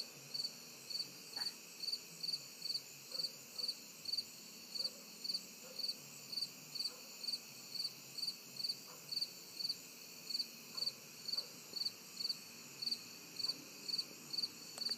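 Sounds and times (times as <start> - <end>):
cricket chirping: 0.0 - 14.9
night insects trilling: 0.0 - 14.9.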